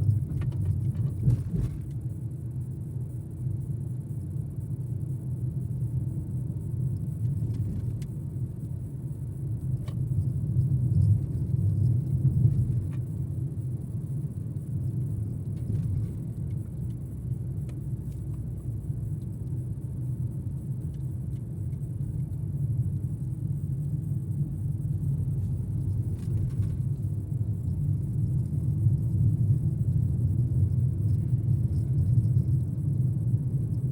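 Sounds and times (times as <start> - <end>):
car cabin rumble: 0.0 - 4.2, 5.6 - 33.9.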